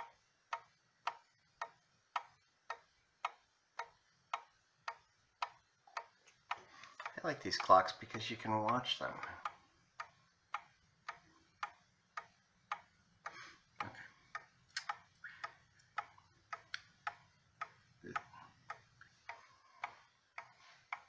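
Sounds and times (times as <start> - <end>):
wall clock ticking: 0.0 - 21.0.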